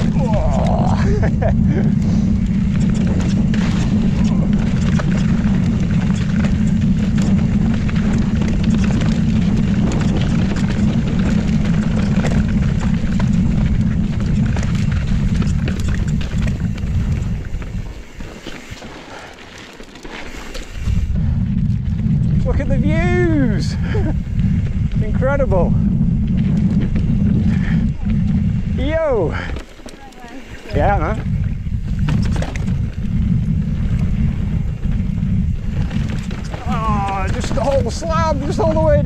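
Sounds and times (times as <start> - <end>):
wind buffeting microphone: 0.0 - 19.4, 20.3 - 39.0
mountain bike rattling over rock: 0.0 - 39.0.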